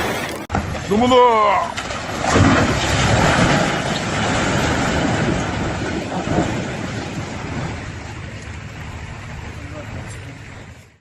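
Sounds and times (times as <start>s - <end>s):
demolition debris rumbling down: 0.0s - 10.0s.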